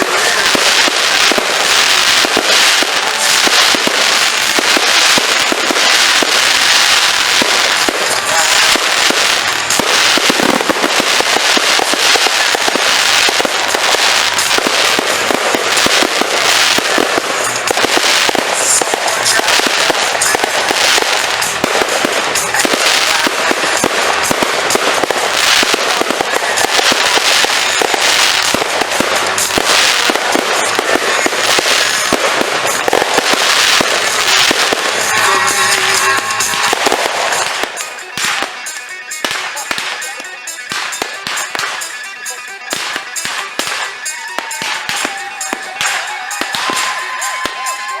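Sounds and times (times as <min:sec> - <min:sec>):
fireworks crackling and popping: 0:00.0 - 0:48.0.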